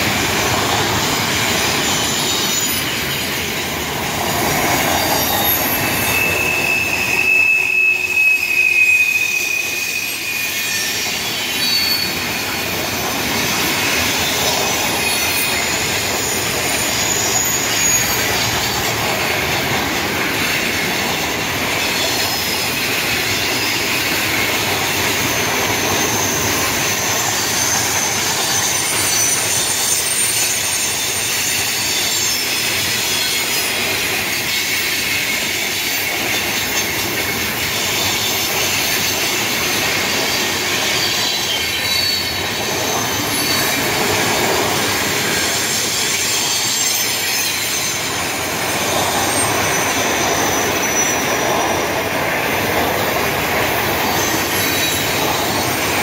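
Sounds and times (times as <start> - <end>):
freight train wheels rumbling on rail: 0.0 - 56.0
high-pitched wheel squeals: 0.8 - 19.6, 20.4 - 52.1, 53.8 - 56.0.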